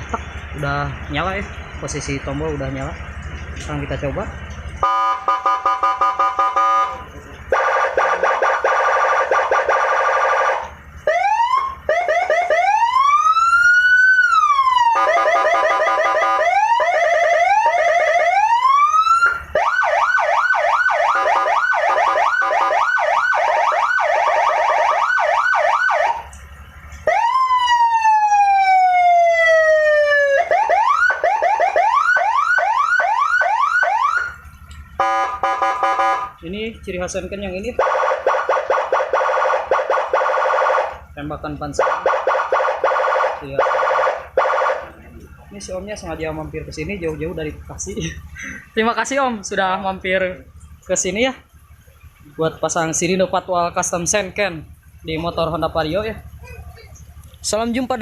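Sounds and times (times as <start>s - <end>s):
police siren cycling through tones: 4.8s - 36.7s, 37.7s - 58.0s.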